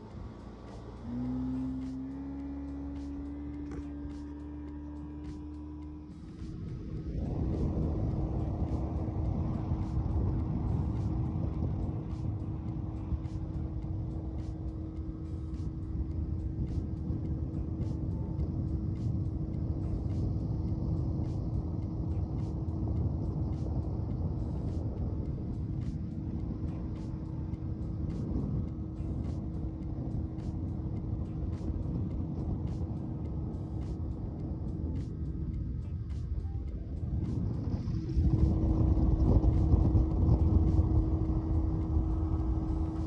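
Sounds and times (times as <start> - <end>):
boat motor running: 0.0 - 43.0
wind: 0.0 - 43.0.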